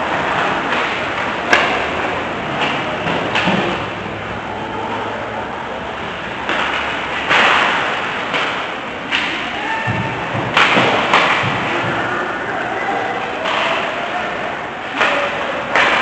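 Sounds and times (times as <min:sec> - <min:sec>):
skating and rink noise: 0:00.0 - 0:16.0.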